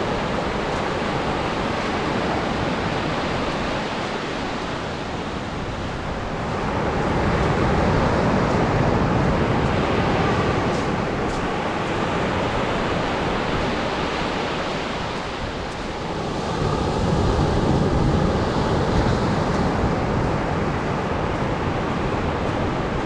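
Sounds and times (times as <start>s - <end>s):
surf breaking on a beach: 0.0s - 23.0s.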